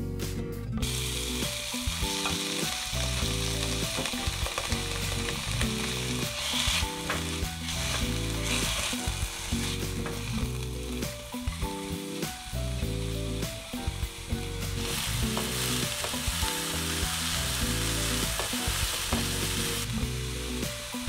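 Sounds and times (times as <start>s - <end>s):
food sizzling in hot oil: 0.8s - 21.0s.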